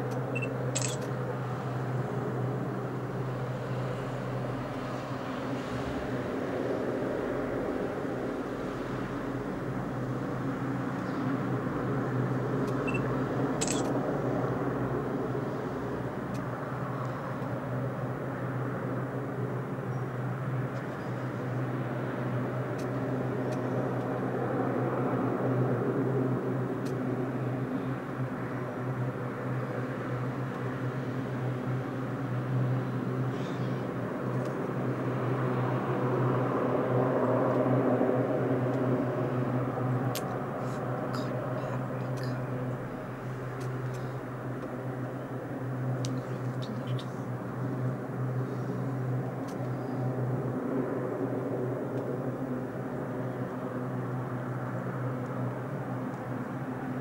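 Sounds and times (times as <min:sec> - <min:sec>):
distant helicopter hovering: 0:00.0 - 0:57.0.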